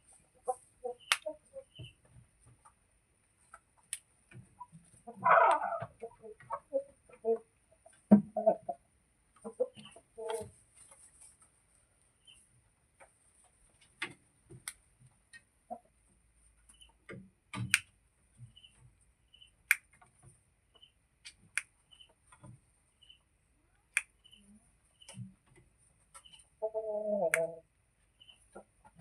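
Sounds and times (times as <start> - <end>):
chicken pecking: 0.0 - 29.0.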